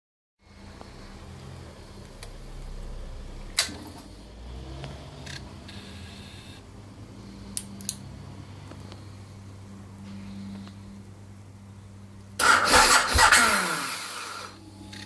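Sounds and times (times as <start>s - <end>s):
low steady hum: 0.4s - 12.7s, 13.9s - 15.0s.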